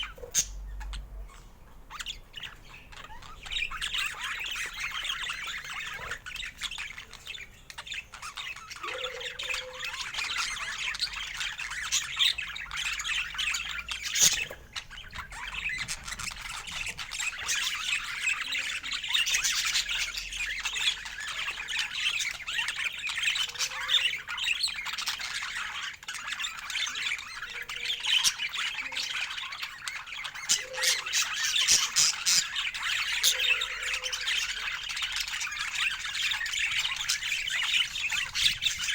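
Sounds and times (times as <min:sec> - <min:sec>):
parakeets chattering and squawking: 0:00.0 - 0:38.9.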